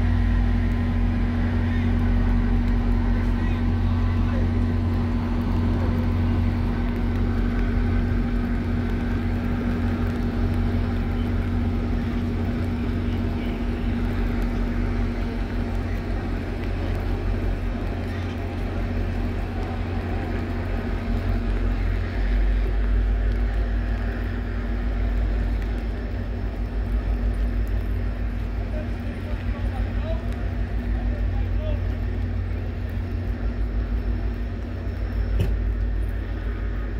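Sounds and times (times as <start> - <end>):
distant diesel locomotive rumble: 0.0 - 36.9.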